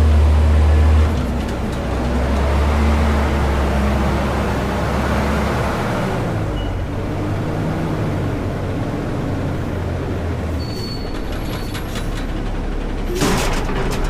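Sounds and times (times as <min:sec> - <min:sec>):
garbage truck engine humming: 0:00.0 - 0:14.0.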